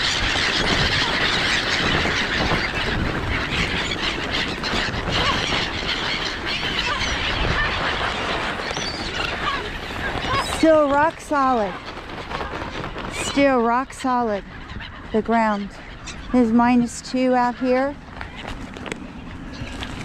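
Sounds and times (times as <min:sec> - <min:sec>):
gulls calling: 0:00.0 - 0:20.0
wings flapping: 0:00.0 - 0:20.0.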